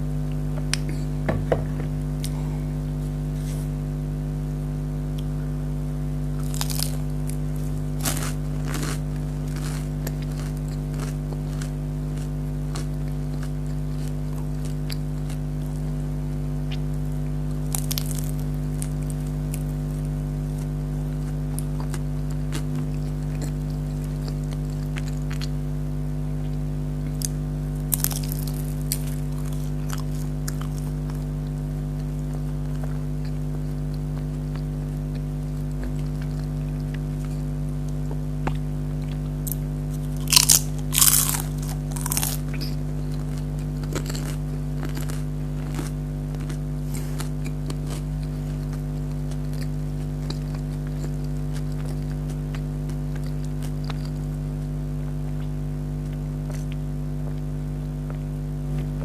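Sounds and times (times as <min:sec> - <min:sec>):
electrical hum: 0:00.0 - 0:59.0
crunchy food chewing: 0:06.3 - 0:59.0.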